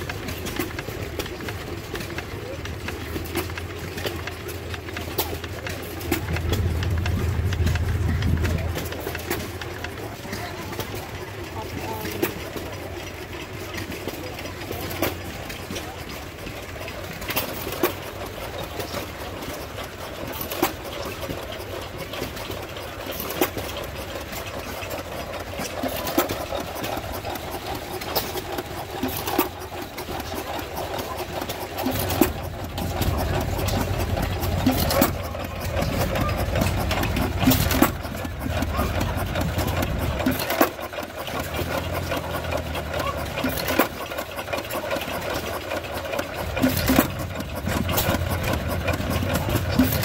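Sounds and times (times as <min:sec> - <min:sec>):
low engine running sound: 0:00.0 - 0:50.0.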